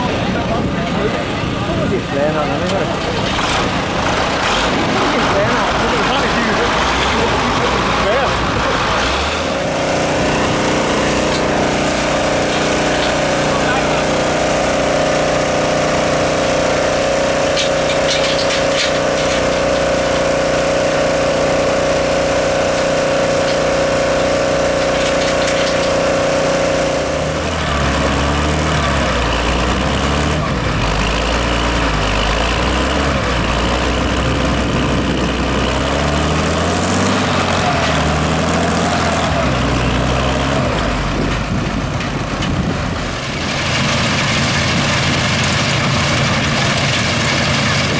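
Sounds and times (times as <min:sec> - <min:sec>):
heavy engine whining: 0:00.0 - 0:47.9
engine revving up and down: 0:01.4 - 0:47.9.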